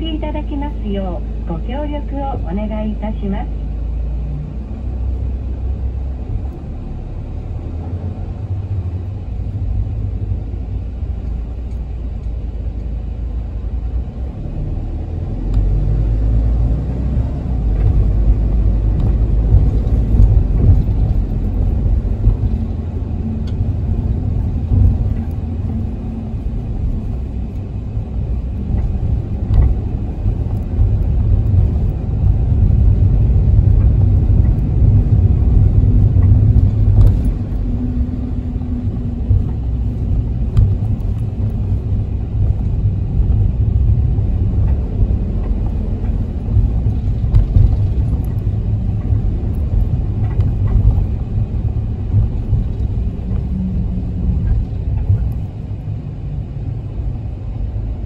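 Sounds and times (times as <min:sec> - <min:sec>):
engine and road noise rumbling: 0:00.0 - 0:58.0.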